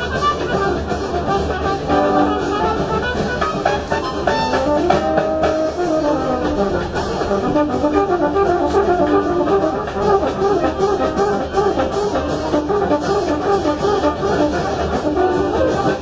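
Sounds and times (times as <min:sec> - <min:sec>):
wind band playing: 0:00.0 - 0:16.0.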